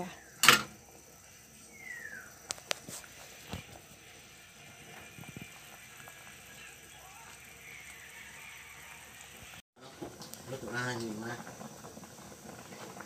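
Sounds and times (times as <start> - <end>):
pot simmering: 0.0 - 13.0.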